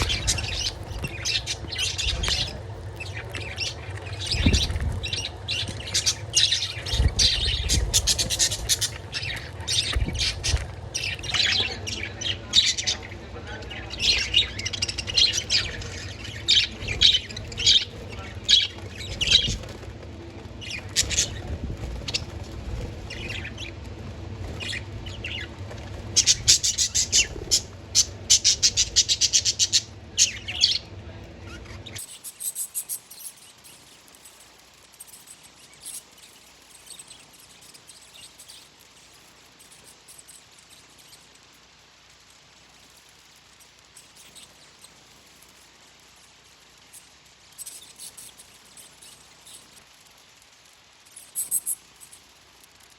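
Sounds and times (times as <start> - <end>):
budgerigars chirping and chattering: 0.0 - 23.8, 24.4 - 41.5, 42.3 - 52.9
background hum: 0.0 - 52.9.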